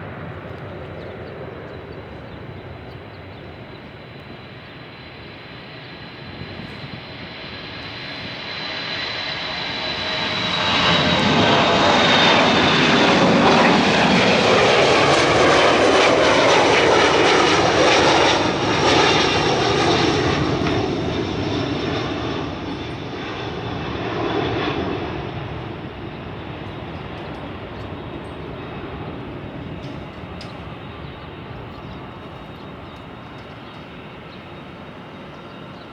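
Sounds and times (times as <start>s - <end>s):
jet airliner flying past: 0.0s - 35.9s.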